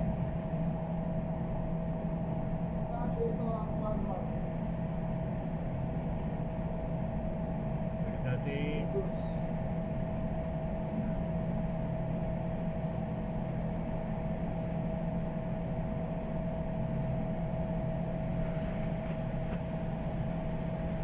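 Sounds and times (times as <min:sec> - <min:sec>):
fan blower hum with whine: 0:00.0 - 0:21.0.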